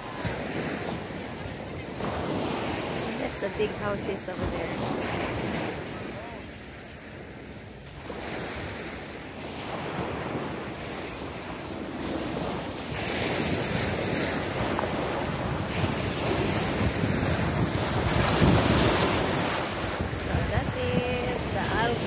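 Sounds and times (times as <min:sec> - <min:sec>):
waves breaking on beach: 0:00.0 - 0:22.0
wind buffeting microphone: 0:00.0 - 0:22.0.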